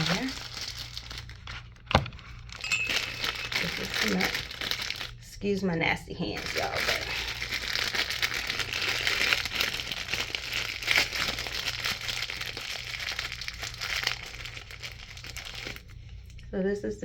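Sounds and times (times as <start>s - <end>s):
crinkling and rustling handling: 0.0s - 5.2s, 6.3s - 16.5s
steady low hum: 0.0s - 17.0s.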